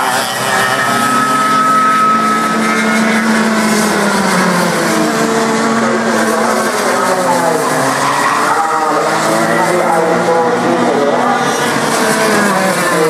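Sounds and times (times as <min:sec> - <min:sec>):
go-kart engines running: 0:00.0 - 0:13.0.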